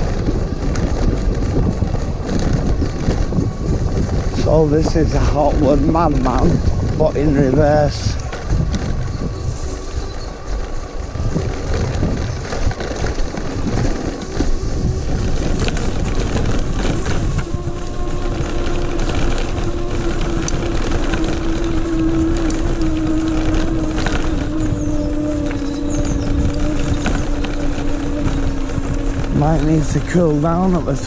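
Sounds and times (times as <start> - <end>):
camera vibration: 0.0 - 31.0
electric motor whining: 0.0 - 31.0
tyres rumbling on dirt: 0.0 - 31.0.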